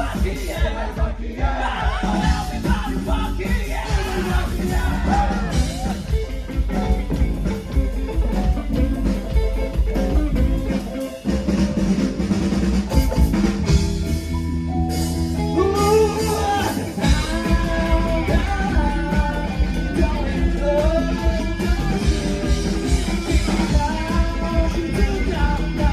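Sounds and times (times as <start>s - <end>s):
live band playing: 0.0s - 25.9s.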